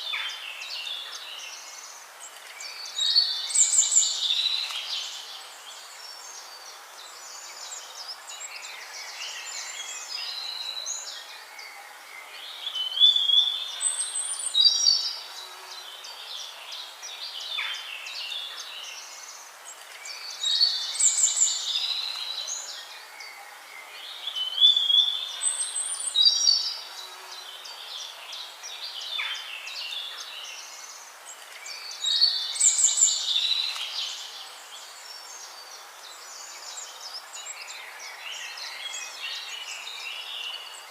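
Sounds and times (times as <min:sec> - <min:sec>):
loud high bird song: 0:00.0 - 0:40.9.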